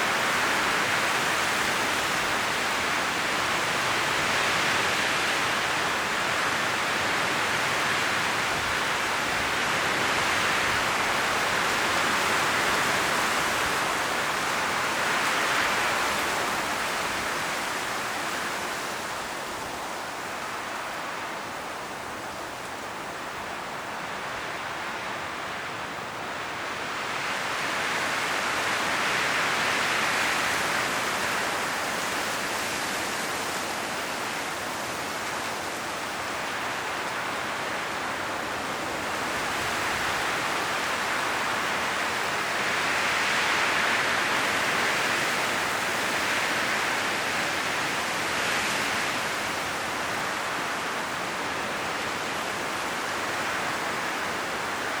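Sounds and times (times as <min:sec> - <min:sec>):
wind rustling tree leaves: 0:00.0 - 0:55.0.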